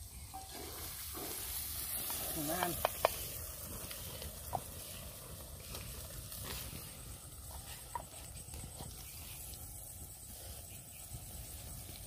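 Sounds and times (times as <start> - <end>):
chicken sizzling in pot: 0.0 - 12.0.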